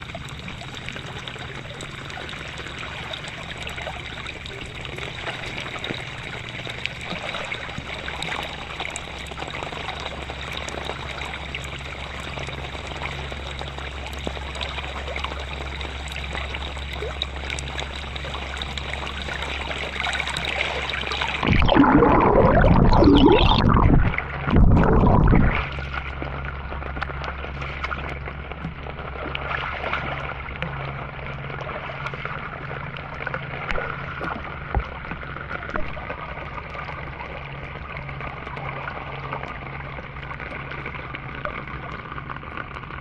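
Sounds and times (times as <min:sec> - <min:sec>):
canal water flowing: 0:00.0 - 0:43.0.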